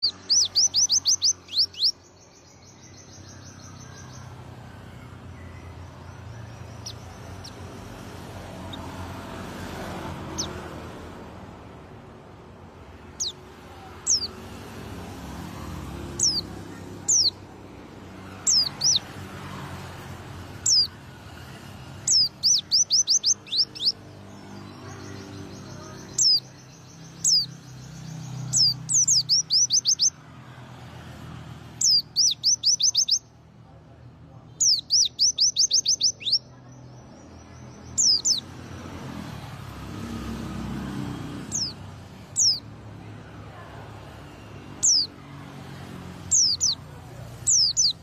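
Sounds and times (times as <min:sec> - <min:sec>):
bird singing rapid sharp notes: 0:00.0 - 0:11.7, 0:12.8 - 0:30.4, 0:31.0 - 0:33.4, 0:34.5 - 0:42.7, 0:44.0 - 0:45.2, 0:45.8 - 0:48.0.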